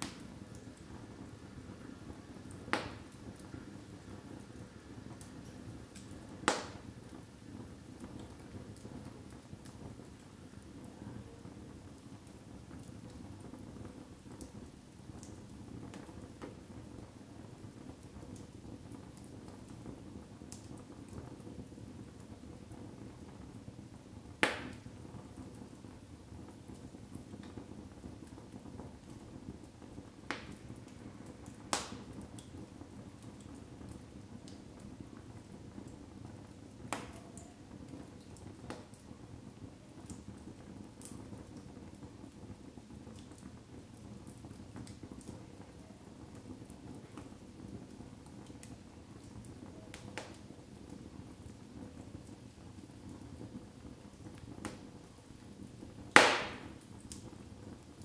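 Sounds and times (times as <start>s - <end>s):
fire crackles and pops: 0.0s - 58.0s
logs burning in fireplace: 0.0s - 58.0s.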